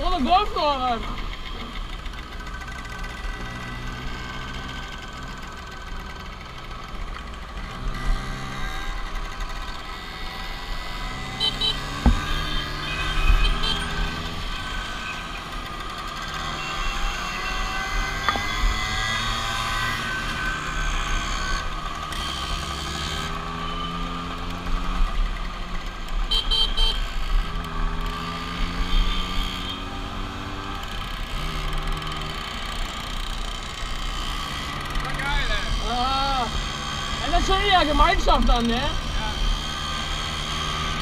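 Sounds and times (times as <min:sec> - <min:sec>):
scooter engines accelerating: 0:00.0 - 0:41.0.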